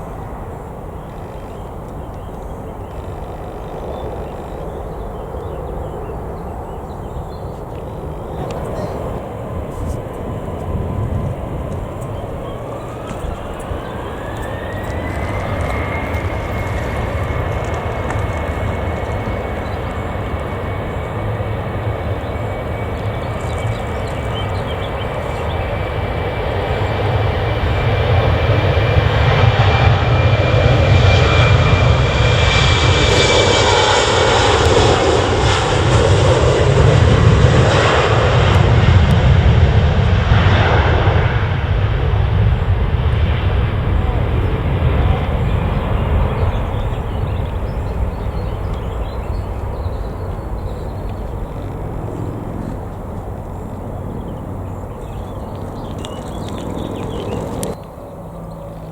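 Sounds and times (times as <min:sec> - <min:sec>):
jet engines whining: 0:00.0 - 0:58.9.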